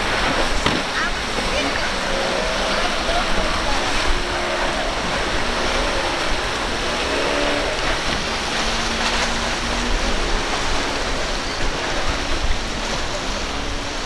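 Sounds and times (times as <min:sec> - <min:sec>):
surf and churning spray: 0:00.0 - 0:14.0.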